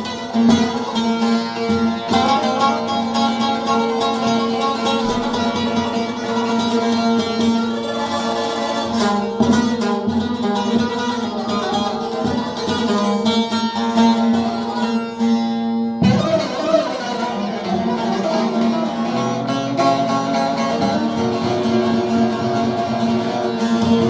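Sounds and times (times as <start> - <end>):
plucked string music with drone: 0.0 - 24.0.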